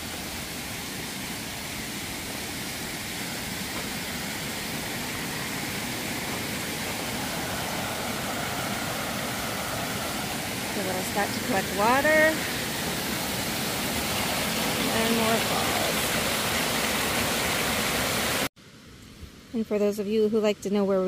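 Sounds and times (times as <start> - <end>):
waterfall rushing over rocks: 0.0 - 18.5.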